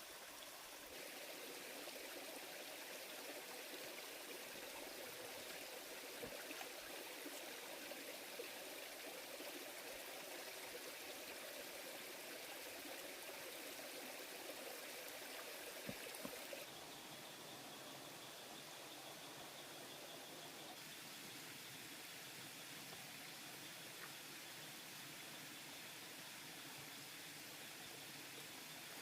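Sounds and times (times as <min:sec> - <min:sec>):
stream water running: 0:00.0 - 0:29.0.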